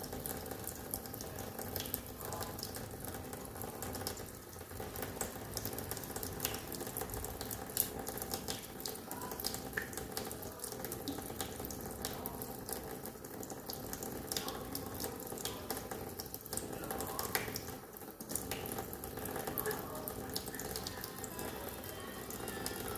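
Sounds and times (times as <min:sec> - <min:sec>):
tap water running into sink: 0:00.0 - 0:22.9
water ticks and drips: 0:00.0 - 0:22.9.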